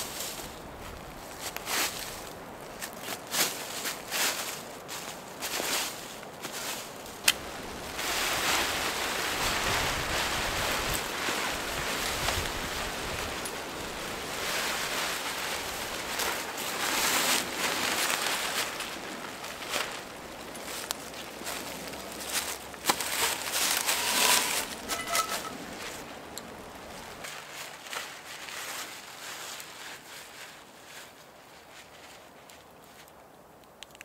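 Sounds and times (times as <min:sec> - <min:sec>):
fabric dragged over dry leaves: 0:00.0 - 0:33.1
tent fabric rustling: 0:00.0 - 0:33.1.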